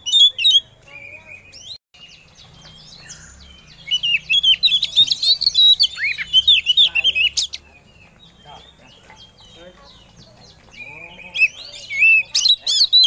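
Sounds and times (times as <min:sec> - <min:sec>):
bird singing chirps and twitters: 0:00.0 - 0:13.0.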